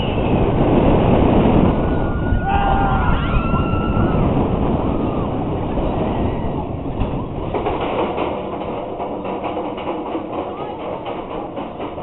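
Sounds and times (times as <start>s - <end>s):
roller coaster wheel rumble: 0.0s - 12.0s
wind rushing over microphone: 0.0s - 12.0s.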